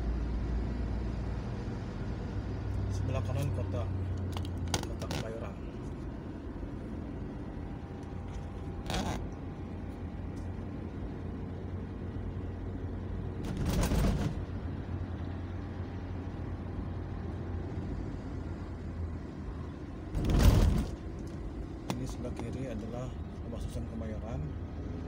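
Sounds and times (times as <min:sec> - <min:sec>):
car engine and tyre noise: 0:00.0 - 0:25.0.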